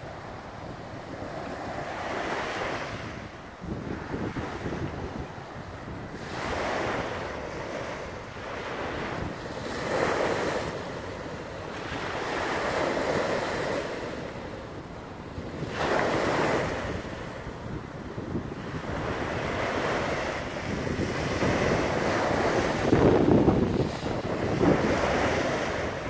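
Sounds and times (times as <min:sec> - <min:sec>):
small waves washing on sand: 0:00.0 - 0:26.0
wind buffeting microphone: 0:00.1 - 0:26.0.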